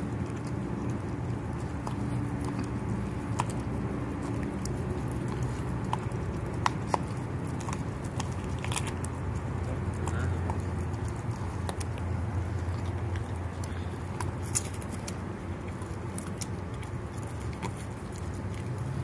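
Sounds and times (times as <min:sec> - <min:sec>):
dog chewing raw fish: 0:00.0 - 0:19.0.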